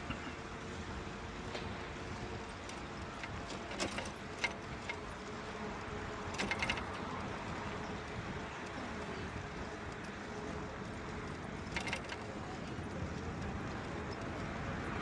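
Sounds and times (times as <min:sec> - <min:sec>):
bicycle clicks and rattles: 0:00.0 - 0:15.0
city street traffic: 0:00.0 - 0:15.0.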